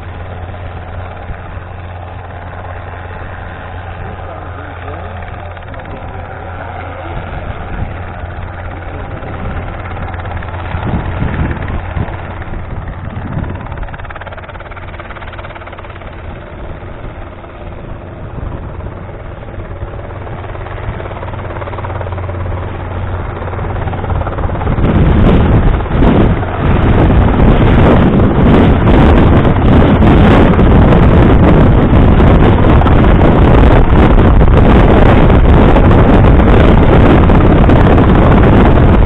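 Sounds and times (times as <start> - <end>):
helicopter engine and rotor drone: 0.0 - 39.0
wind on microphone: 0.0 - 39.0.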